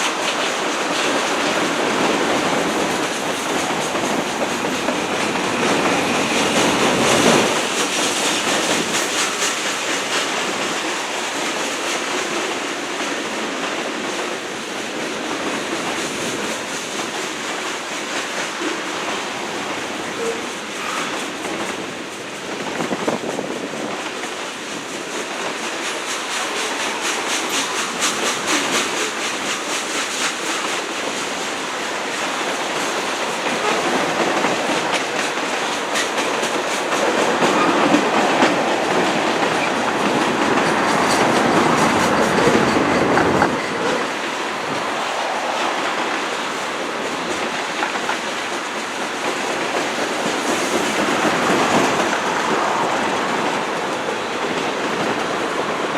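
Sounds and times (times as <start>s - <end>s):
train wheels clicking over rail joints: 0.0s - 55.9s.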